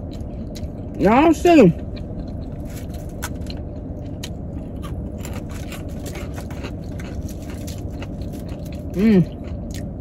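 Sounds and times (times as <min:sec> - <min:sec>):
person chewing food: 0:00.0 - 0:01.0, 0:01.8 - 0:10.0.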